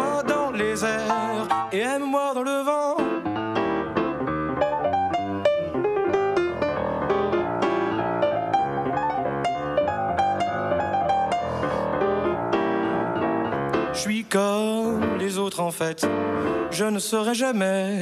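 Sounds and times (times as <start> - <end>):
solo grand piano: 0.0 - 17.3.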